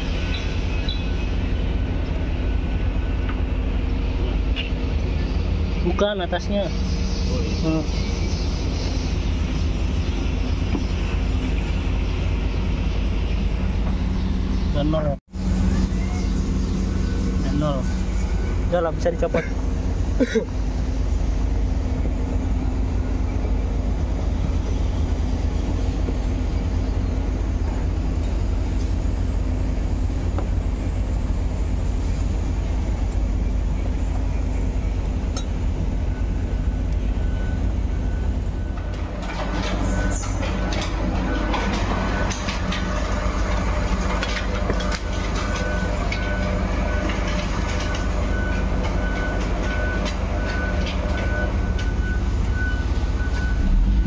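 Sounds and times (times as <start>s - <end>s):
large engine droning: 0.0s - 54.0s.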